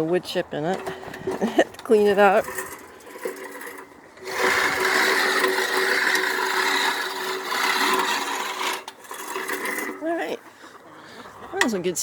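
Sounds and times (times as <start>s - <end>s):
reel mower blades whirring: 0.0s - 12.0s.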